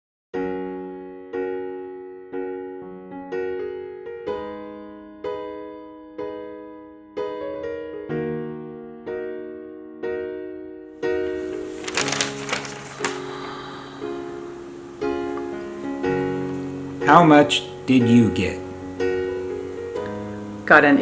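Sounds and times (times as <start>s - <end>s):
electric piano chords: 0.4s - 21.0s.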